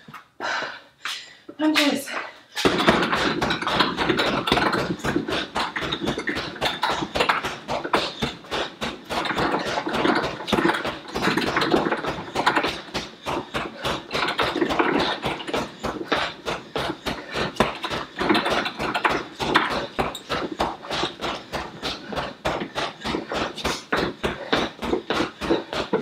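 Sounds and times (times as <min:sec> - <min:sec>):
punches thudding on heavy bag: 0:02.6 - 0:26.0.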